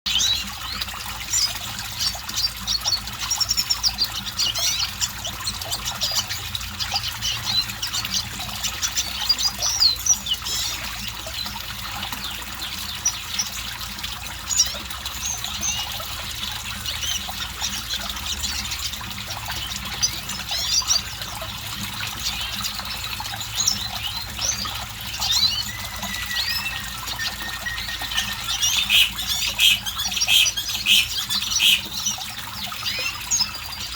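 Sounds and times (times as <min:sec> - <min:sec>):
bird twittering song: 0:00.1 - 0:33.9.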